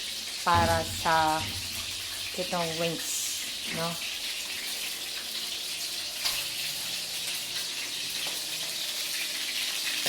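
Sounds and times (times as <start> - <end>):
chicken frying in hot oil: 0.0 - 10.0.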